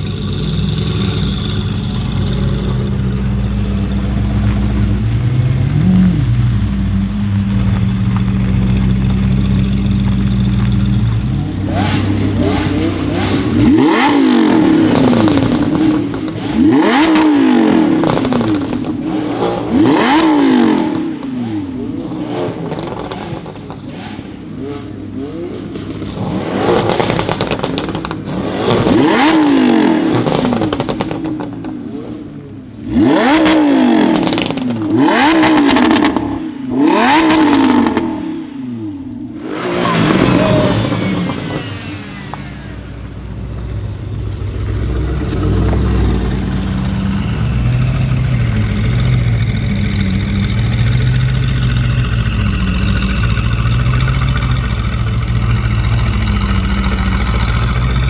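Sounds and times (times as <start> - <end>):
car engine idling and revving: 0.0 - 58.0
exhaust crackles: 0.0 - 58.0.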